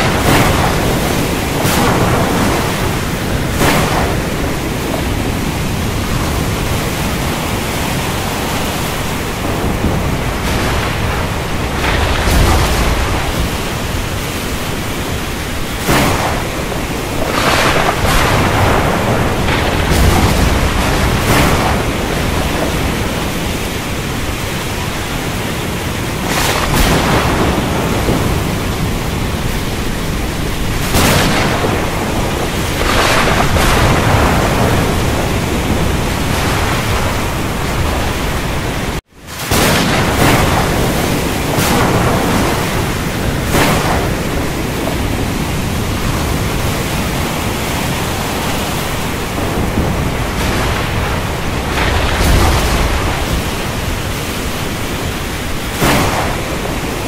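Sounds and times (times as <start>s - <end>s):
heavy rain falling: 0.0s - 57.0s
thunder cracking and rumbling: 0.0s - 57.0s.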